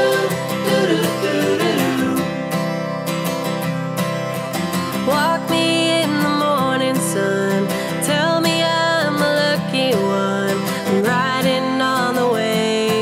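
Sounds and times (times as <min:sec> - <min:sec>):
strummed acoustic guitar music: 0:00.0 - 0:13.0.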